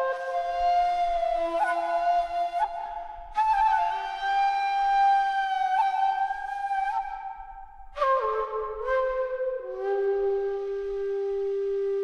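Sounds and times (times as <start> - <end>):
end-blown bamboo flute: 0.0 - 12.0.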